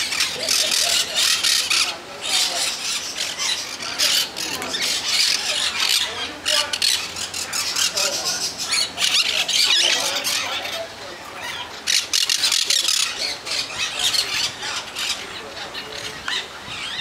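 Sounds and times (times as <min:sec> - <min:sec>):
parrots screeching and squawking: 0:00.0 - 0:17.0.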